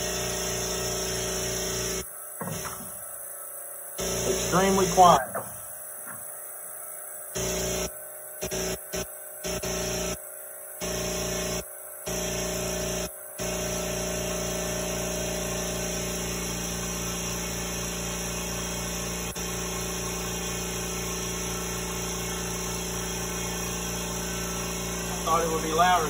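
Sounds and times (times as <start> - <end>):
air compressor humming: 0.0 - 26.0.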